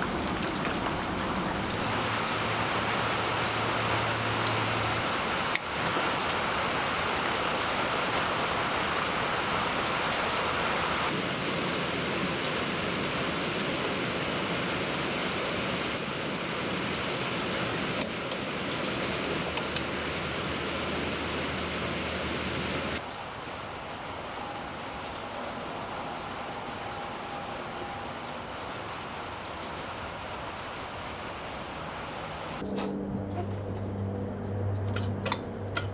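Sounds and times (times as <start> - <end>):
rain rushing: 0.0 - 19.5, 23.0 - 32.6.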